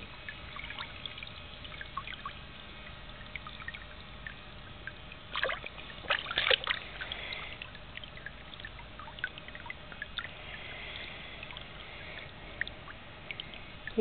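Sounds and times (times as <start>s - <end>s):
water trickling from a toy: 0.0s - 14.0s
small splashes in a pool: 0.1s - 14.0s.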